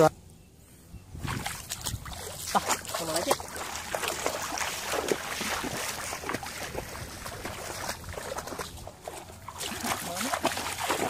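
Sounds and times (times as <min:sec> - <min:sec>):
feet wading through shallow water: 0:01.2 - 0:11.0.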